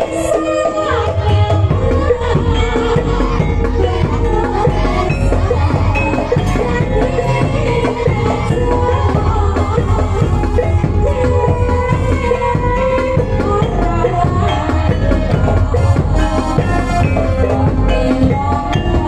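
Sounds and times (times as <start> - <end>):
gamelan ensemble playing: 0.0 - 19.0
hand drums: 0.0 - 19.0
wavering melody line: 0.0 - 19.0.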